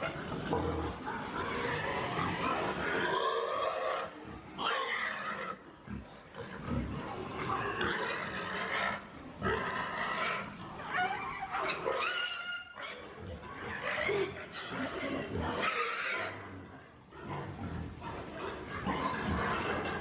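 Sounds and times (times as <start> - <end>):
pigs squealing: 0.0 - 20.0.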